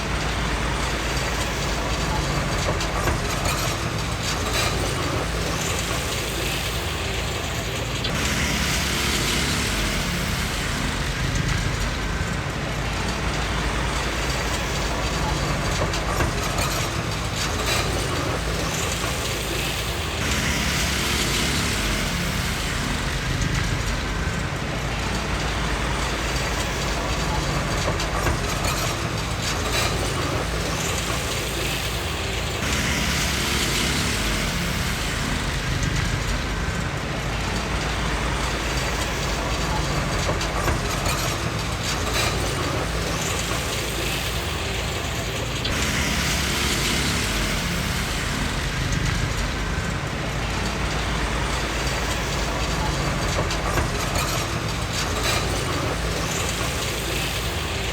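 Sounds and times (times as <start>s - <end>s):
bulldozer diesel engine rumbling: 0.0s - 57.9s
steel tracks clattering: 0.0s - 57.9s.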